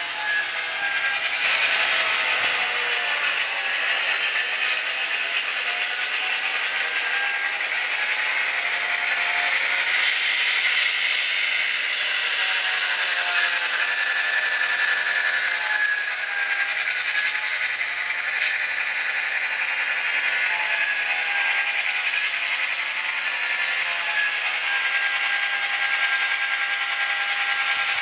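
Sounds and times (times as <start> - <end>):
model train motor whirring: 0.0 - 28.0.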